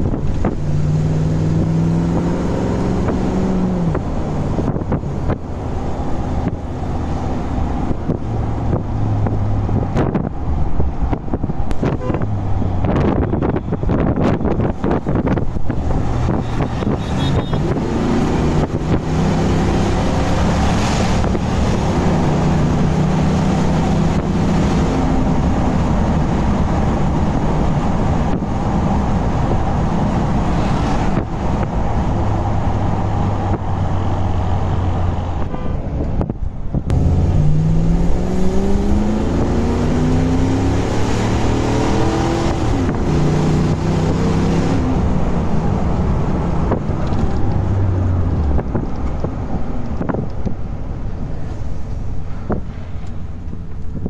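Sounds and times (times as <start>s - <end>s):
engine revving while driving: 0.0s - 51.3s.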